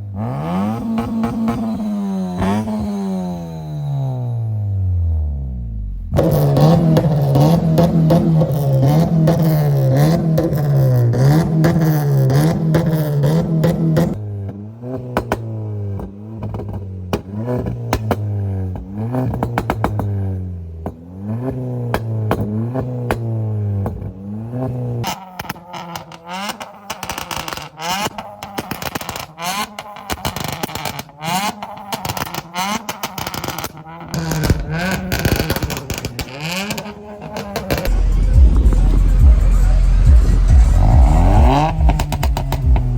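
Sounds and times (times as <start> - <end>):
car engine revving: 0.0 - 42.9
exhaust crackles: 0.0 - 42.9.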